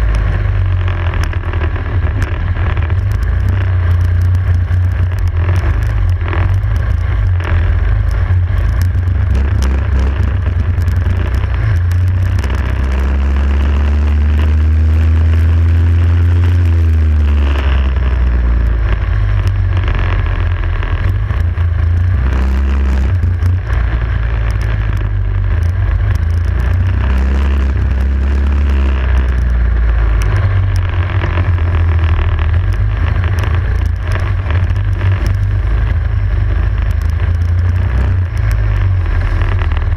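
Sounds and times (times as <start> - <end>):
racing kart engine revving: 0.0 - 39.9.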